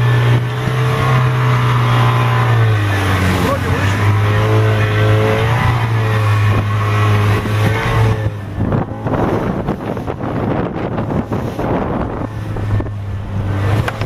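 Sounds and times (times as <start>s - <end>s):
outboard motor running: 0.0s - 14.0s
water splashing against hull: 0.0s - 14.0s
wind buffeting microphone: 0.0s - 14.0s.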